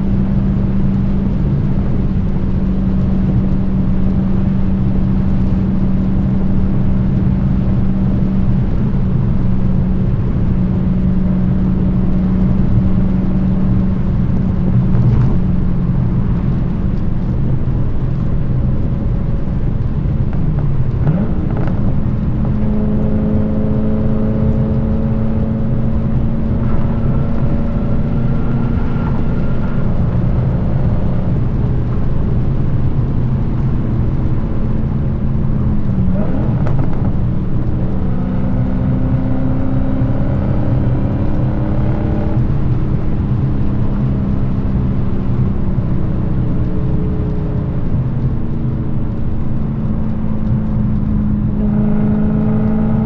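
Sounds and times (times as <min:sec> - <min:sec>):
car exhaust drone at cruise: 0:00.0 - 0:53.0.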